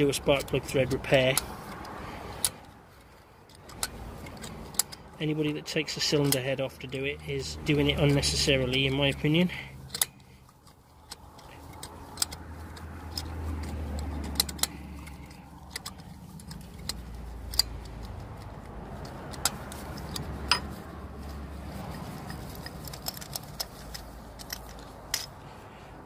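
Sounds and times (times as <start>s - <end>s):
metallic clicks of socket tool: 0.2s - 25.4s.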